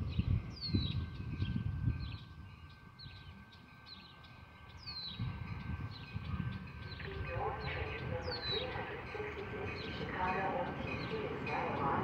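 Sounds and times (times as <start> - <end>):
low gusty rumble: 0.0 - 3.1, 5.1 - 12.0
birds chirping: 0.1 - 12.0.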